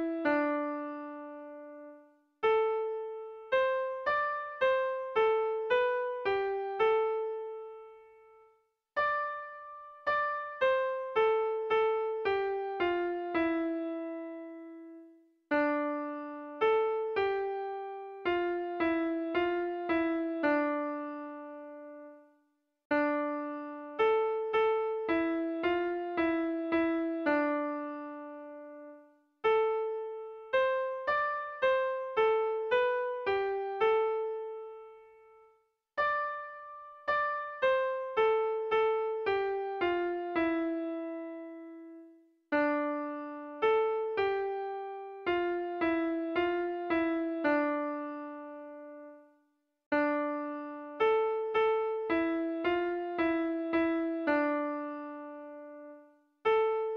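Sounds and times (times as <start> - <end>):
electric piano melody: 0.0 - 8.4, 9.0 - 22.3, 22.9 - 49.3, 49.9 - 56.9.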